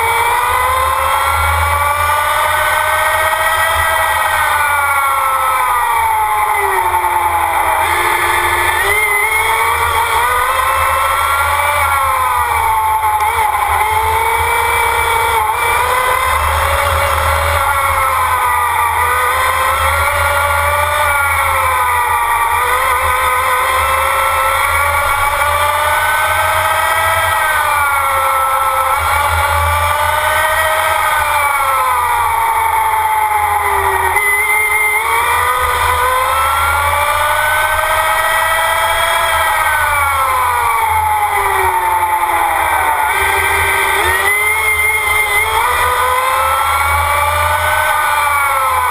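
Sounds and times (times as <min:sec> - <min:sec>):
electric motor drive whine: 0:00.0 - 0:48.9.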